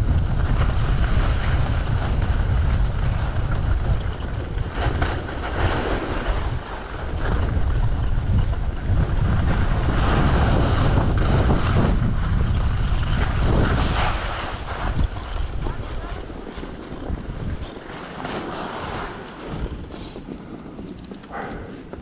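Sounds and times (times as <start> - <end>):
skis scraping over snow: 0.0 - 22.0
wind rushing over microphone: 0.0 - 22.0.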